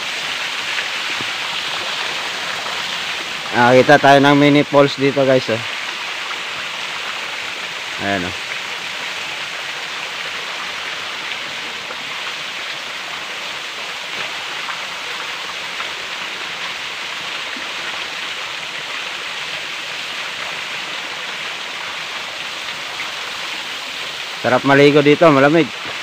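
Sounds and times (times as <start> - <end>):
creek water running over stones: 0.0 - 26.0.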